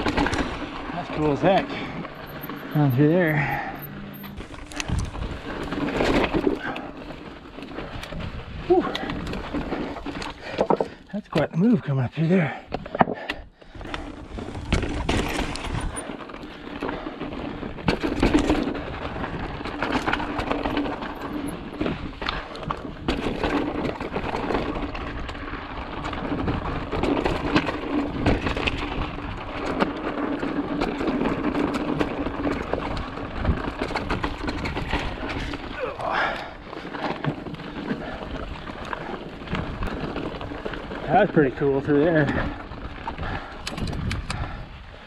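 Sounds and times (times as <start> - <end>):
bike rattling: 0.0 - 45.0
bike tyres rumbling over rock: 0.0 - 45.0.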